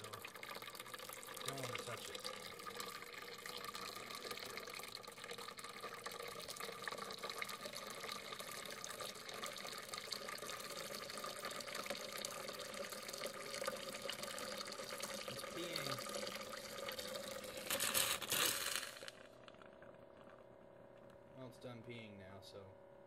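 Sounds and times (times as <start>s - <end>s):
water splashing into a sink: 0.0s - 20.3s.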